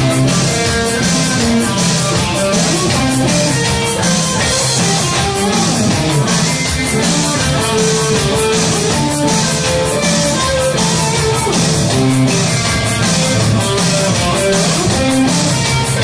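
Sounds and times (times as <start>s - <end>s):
electric guitar: 0.0s - 16.0s
live rock band playing: 0.0s - 16.0s.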